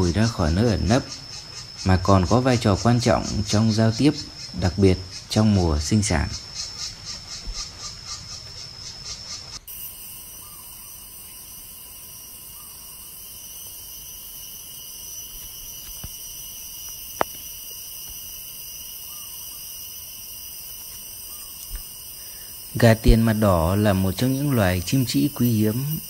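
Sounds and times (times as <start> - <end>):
high-pitched insect drone: 0.0 - 26.0
pulsing insect chirr: 0.0 - 26.0.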